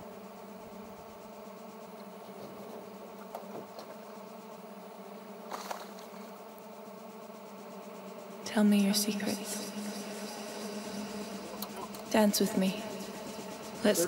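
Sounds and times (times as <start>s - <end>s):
steady buzzing hum: 0.0s - 14.0s.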